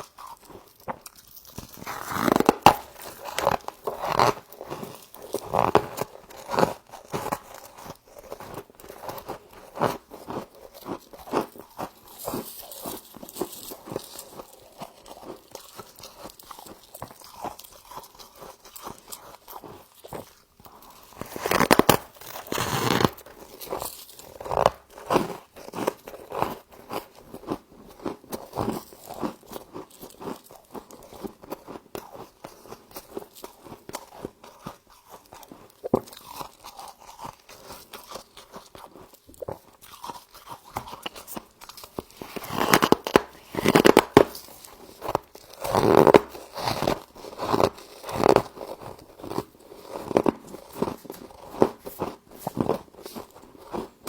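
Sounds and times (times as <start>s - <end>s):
crisp crunches of chewing frost: 0.0s - 54.0s.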